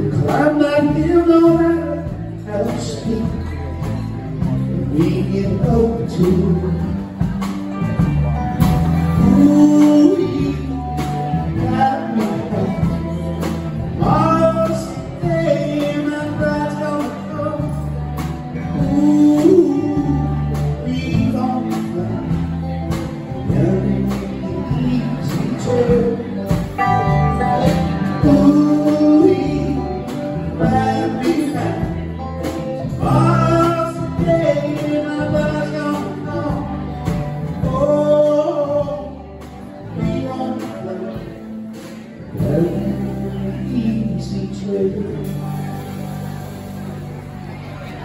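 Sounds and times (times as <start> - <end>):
steady drum beat: 0.0 - 43.8
live band playing: 0.0 - 48.0.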